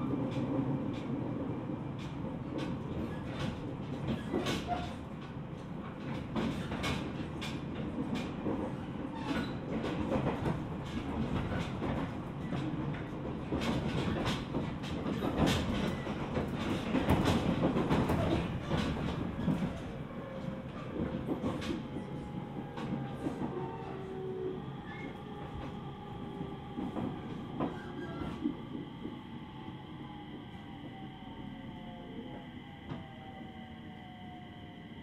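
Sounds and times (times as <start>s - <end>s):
rail joint clicks and knocks: 0.0s - 31.0s
train wheels rumbling on rail: 0.0s - 35.0s.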